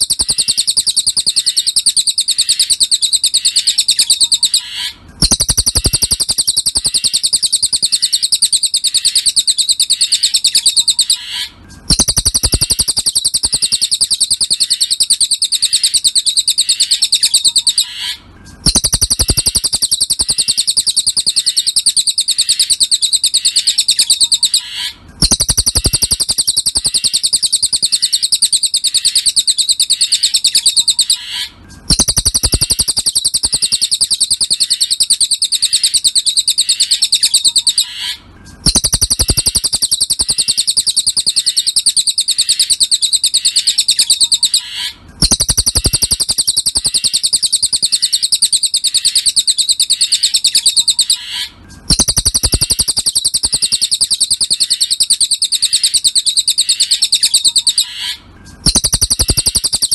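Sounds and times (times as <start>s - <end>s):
bird trilling high chirps: 0.0s - 59.9s.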